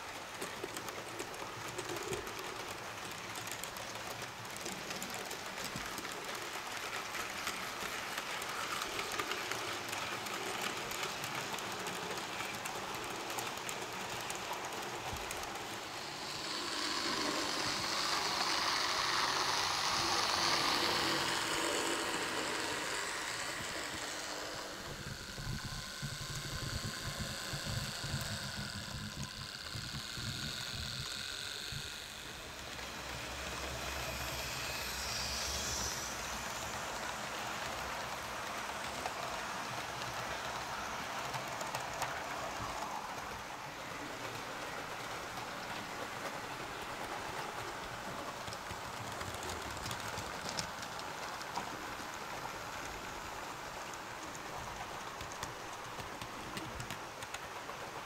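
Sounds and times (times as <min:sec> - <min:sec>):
model trains rolling on track: 0:00.0 - 0:58.0.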